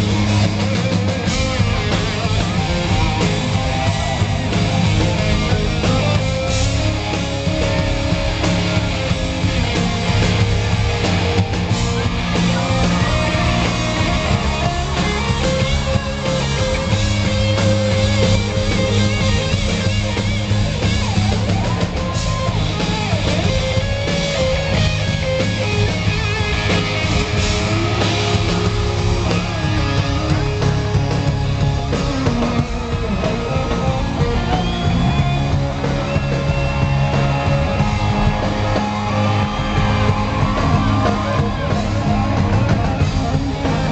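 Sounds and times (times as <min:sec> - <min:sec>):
electric guitar lead sliding: 0:00.0 - 0:43.9
live rock band playing: 0:00.0 - 0:43.9.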